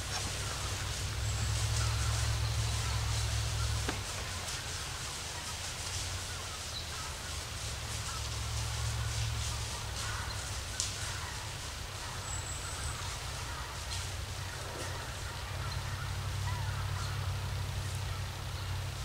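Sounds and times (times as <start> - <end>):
distant bird calls: 0.0 - 19.0
faint crackles: 0.0 - 19.0.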